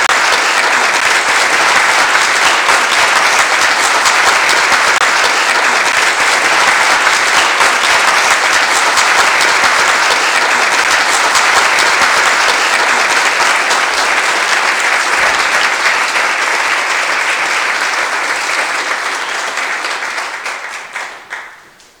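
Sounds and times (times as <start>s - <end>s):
large audience applauding: 0.0s - 22.0s.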